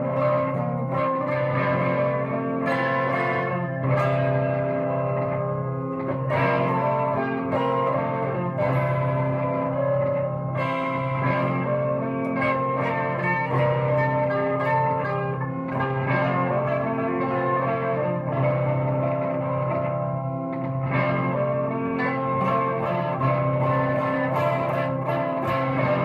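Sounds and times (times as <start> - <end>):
plucked guitar notes: 0.0 - 26.0.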